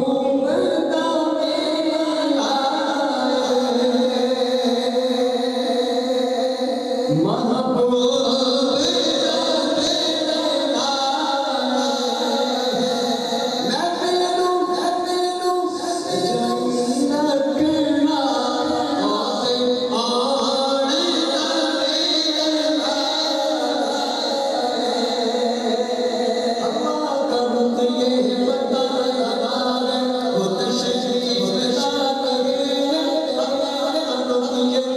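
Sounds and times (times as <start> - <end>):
man singing melodic lines: 0.0 - 34.9.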